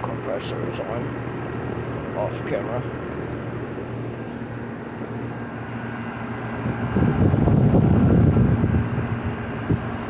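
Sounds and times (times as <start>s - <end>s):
air conditioner units humming: 0.0s - 10.0s.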